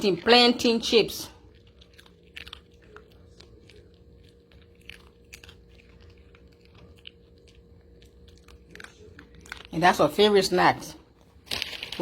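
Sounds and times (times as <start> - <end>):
dog crunching chips: 0.0 - 12.0.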